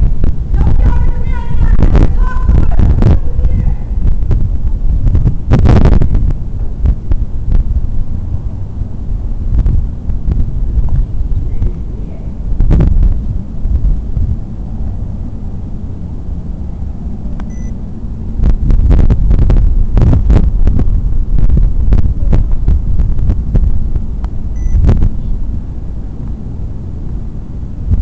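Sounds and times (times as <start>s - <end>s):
crackles and rattles: 0.0s - 28.0s
hurricane wind gusting: 0.0s - 28.0s.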